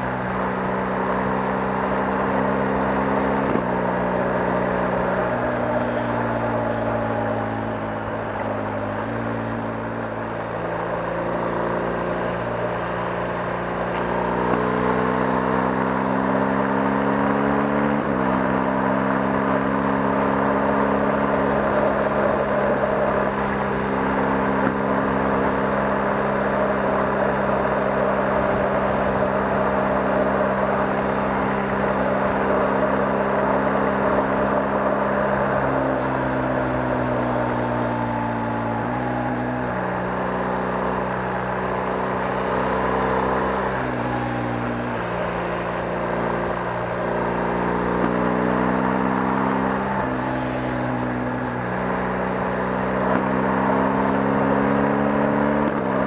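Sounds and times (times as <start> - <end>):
motorcycle engine running: 0.0 - 56.0
tyre and road noise: 0.0 - 56.0.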